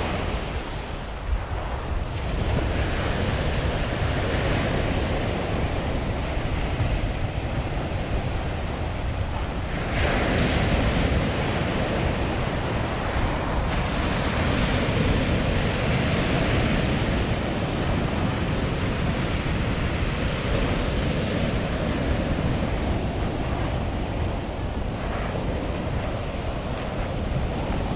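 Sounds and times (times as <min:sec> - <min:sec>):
waves breaking on pebble beach: 0:00.0 - 0:27.9.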